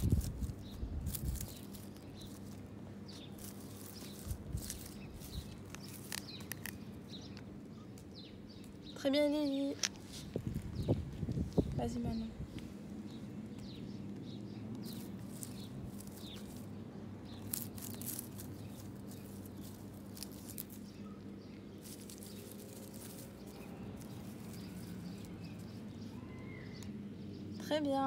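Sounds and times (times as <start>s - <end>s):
figurine rustling through grass: 0.0s - 8.9s, 9.5s - 26.8s
low outdoor hum: 0.0s - 28.0s.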